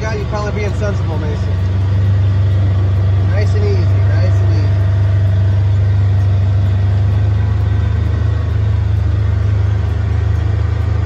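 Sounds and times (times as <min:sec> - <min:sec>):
engine low hum: 0:00.0 - 0:11.0.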